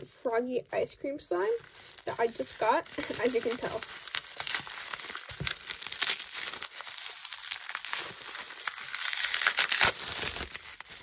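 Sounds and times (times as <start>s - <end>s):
plastic packaging crinkling and tearing: 0.3s - 11.0s.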